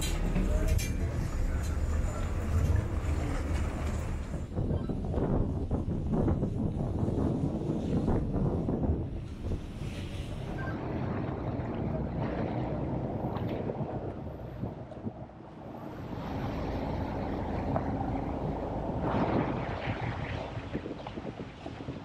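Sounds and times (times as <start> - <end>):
boat engine hum: 0.0 - 22.0
water rushing along hull: 0.0 - 22.0
wind buffeting microphone: 0.0 - 22.0.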